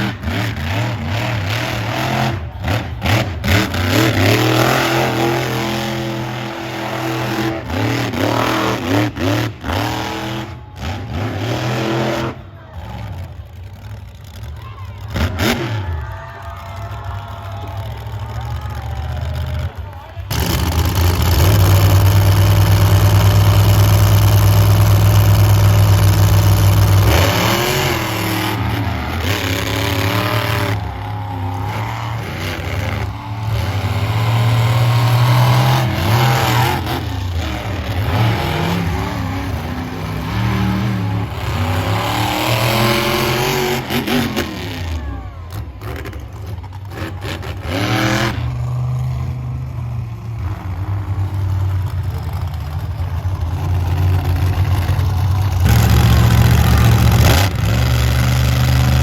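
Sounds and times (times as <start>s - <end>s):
monster truck engine revving: 0.0s - 59.0s.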